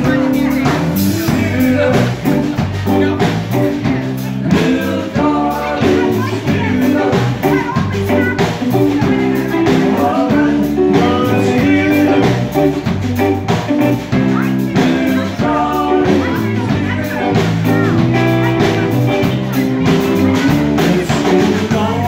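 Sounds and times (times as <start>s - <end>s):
drum kit beat: 0.0s - 22.0s
electric bass: 0.0s - 22.0s
electric guitar: 0.0s - 22.0s.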